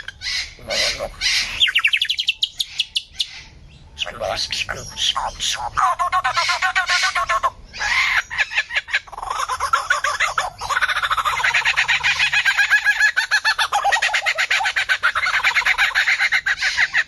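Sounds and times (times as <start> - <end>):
bird calling rapid repeated notes: 0.0 - 17.0.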